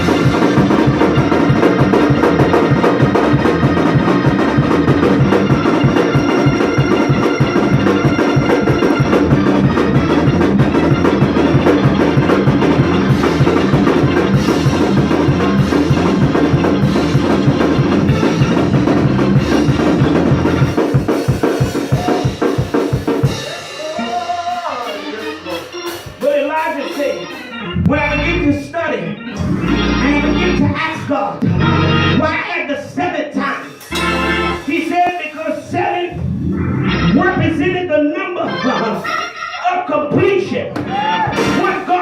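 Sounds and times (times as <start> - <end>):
drum kit playing: 0.0 - 28.7, 29.4 - 32.2, 33.6 - 37.9, 41.0 - 42.0
organ: 0.0 - 42.0.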